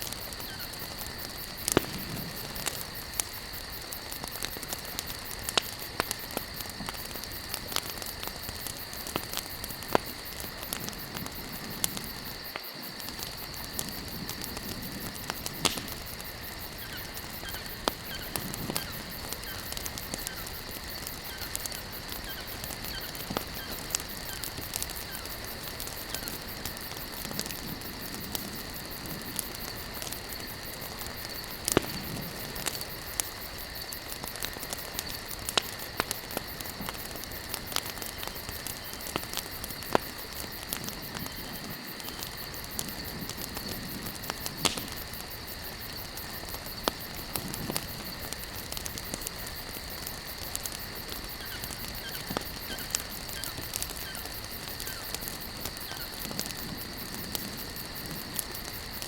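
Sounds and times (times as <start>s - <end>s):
campfire crackling and popping: 0.0s - 59.0s
fire hissing: 0.0s - 59.0s.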